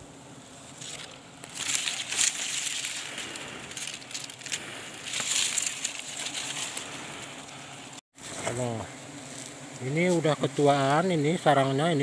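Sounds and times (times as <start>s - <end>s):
leaves rustling against microphone: 0.0s - 12.0s.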